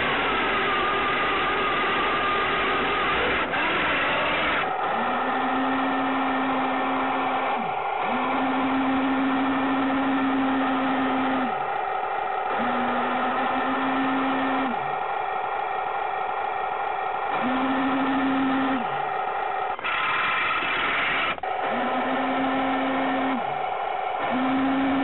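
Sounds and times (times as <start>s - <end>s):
toy tank motor whine: 0.0s - 15.0s, 17.3s - 25.0s
loud noisy burst: 0.0s - 25.0s.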